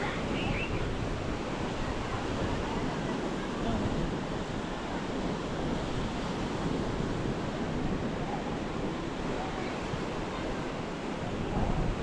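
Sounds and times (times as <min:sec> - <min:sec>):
ocean surf washing onto beach: 0:00.0 - 0:12.0
wind noise on microphone: 0:00.0 - 0:12.0.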